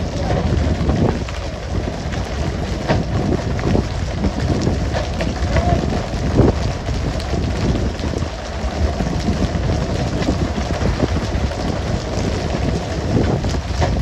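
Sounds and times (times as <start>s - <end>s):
boat engine rumbling: 0.0s - 14.0s
water spray and splashing sea: 0.0s - 14.0s.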